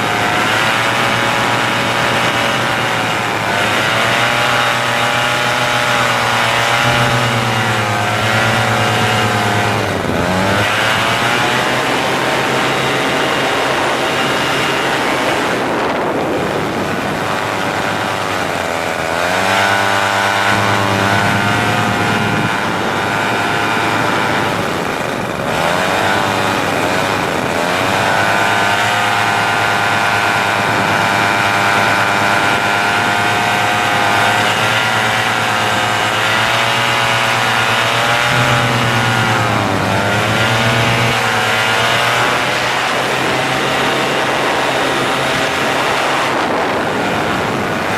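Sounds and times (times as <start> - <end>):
engine running with changing pitch: 0.0 - 47.9.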